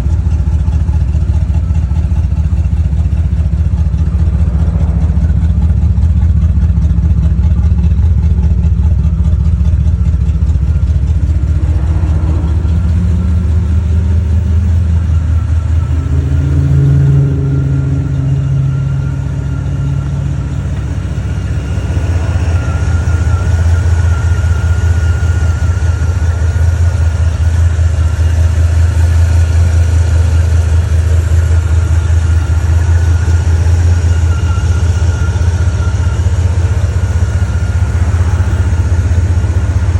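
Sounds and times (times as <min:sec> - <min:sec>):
car engine idling: 0:00.0 - 0:39.9
faint whine: 0:01.2 - 0:39.9.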